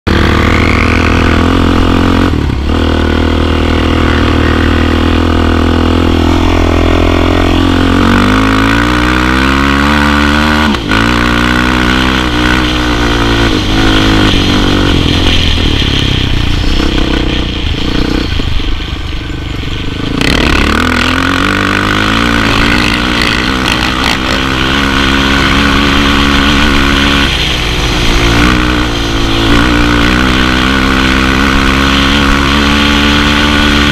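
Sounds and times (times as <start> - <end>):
quad bike engine revving: 0.0 - 18.6, 19.8 - 33.9.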